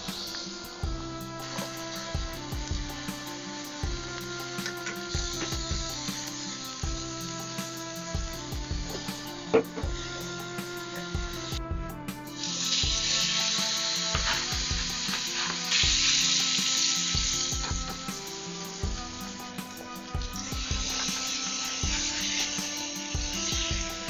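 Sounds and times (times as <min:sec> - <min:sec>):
meat sizzling in frying pan: 0:00.0 - 0:11.6, 0:12.2 - 0:24.0.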